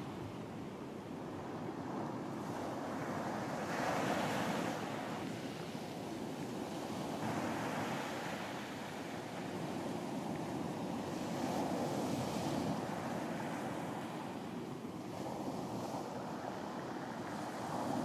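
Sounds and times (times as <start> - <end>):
ocean waves washing onto beach: 0.0 - 18.0.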